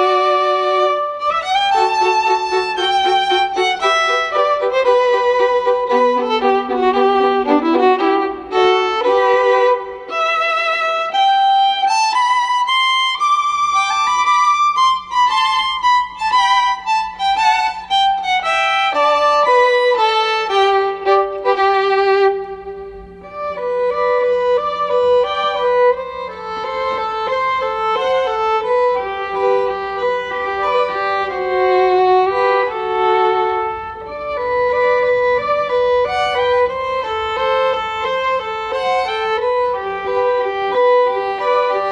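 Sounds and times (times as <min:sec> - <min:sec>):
violin melody with vibrato: 0:00.0 - 0:41.9.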